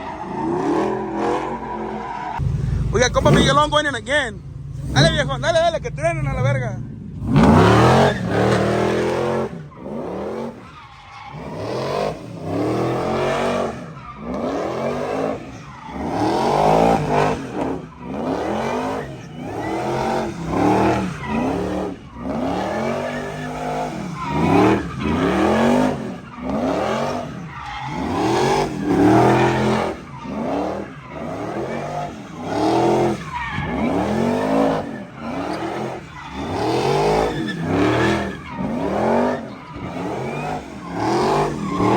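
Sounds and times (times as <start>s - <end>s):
car engine revving hard: 0.0s - 3.9s, 4.7s - 41.9s
tire squeal: 0.0s - 5.6s, 6.2s - 41.9s.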